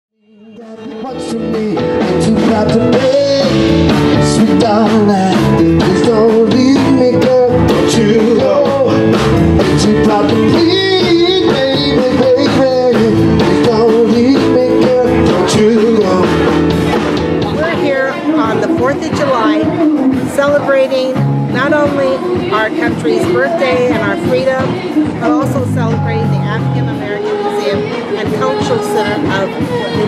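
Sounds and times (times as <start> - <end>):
blues band playing: 0.2 - 30.0
drums: 0.2 - 30.0
electric guitar: 0.2 - 30.0.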